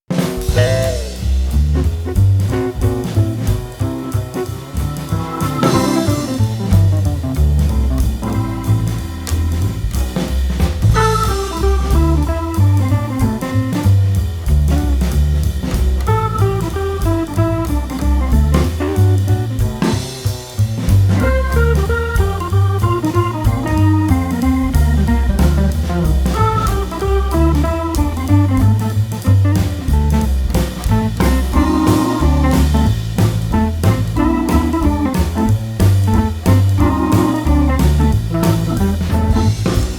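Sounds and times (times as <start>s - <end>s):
instrumental music with drums: 0.0s - 39.9s.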